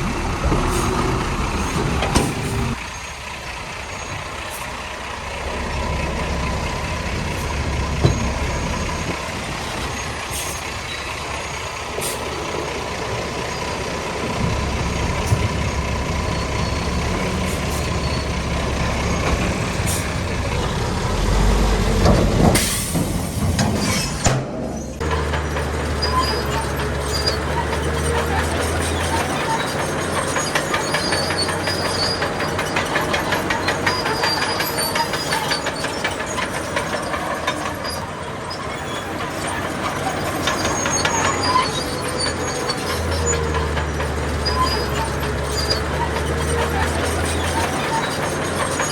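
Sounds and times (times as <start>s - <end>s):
heavy machinery diesel engines: 0.0s - 48.9s.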